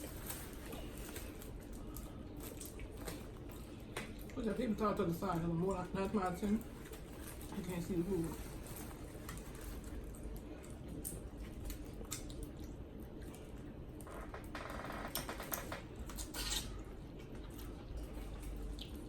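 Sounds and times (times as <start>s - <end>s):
wet chewing: 0.0s - 7.8s, 8.4s - 14.0s, 15.1s - 19.0s.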